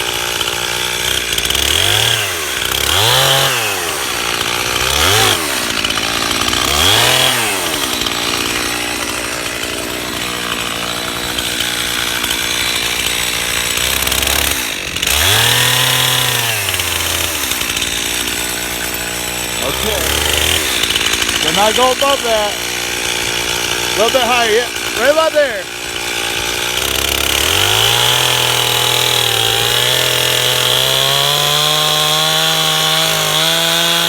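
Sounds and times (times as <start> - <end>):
chainsaw engine revving: 0.0 - 34.0.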